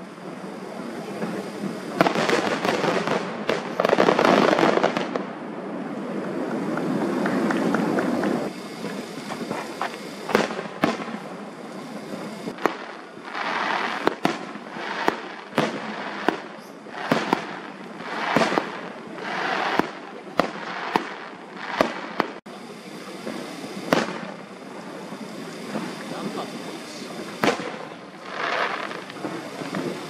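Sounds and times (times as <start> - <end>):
fireworks bursting with sharp bangs: 0.0 - 30.0
fireworks hissing: 0.0 - 30.0.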